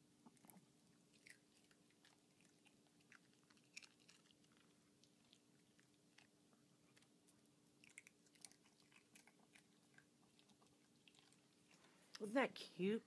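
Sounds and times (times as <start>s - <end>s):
dog crunching a chip: 0.3s - 12.0s.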